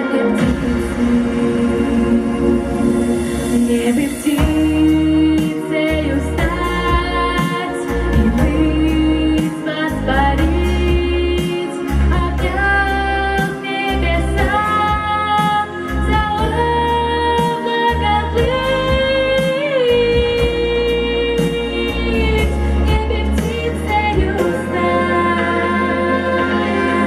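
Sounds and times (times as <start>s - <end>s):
instrumental backing with bass: 0.0s - 27.0s
woman singing: 0.0s - 27.0s.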